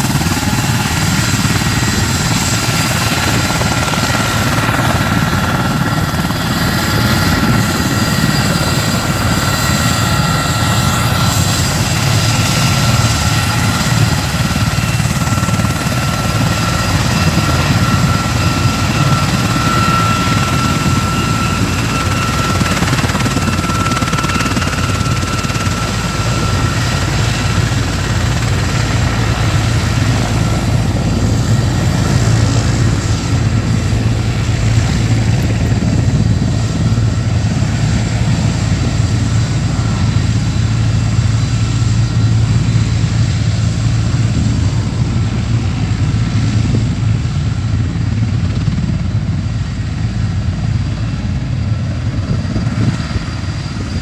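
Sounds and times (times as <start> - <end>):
helicopter turbines and rotor: 0.0 - 54.0
high turbine whine: 0.0 - 54.0.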